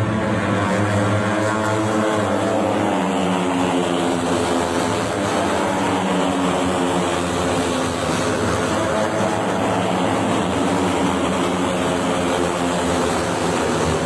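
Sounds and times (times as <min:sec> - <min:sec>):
noisy rush: 0:00.0 - 0:14.0
steady engine drone: 0:00.0 - 0:14.0.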